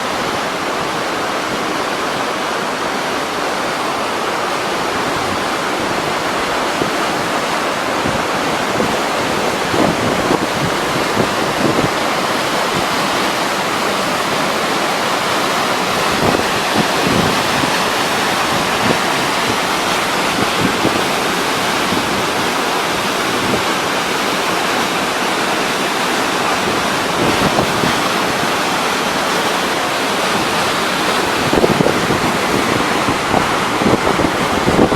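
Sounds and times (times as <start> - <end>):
waterfall roaring: 0.0 - 34.9
wind buffeting microphone: 4.6 - 24.1, 26.3 - 34.9.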